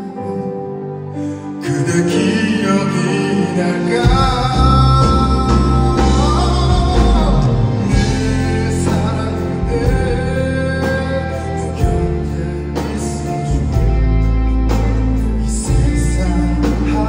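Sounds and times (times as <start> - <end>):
band playing: 0.0 - 17.0
man singing into microphone: 0.0 - 17.0.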